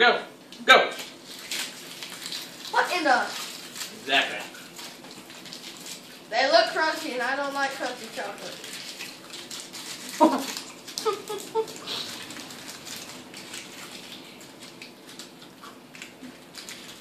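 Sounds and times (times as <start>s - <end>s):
foil wrappers crinkling: 0.5s - 17.0s.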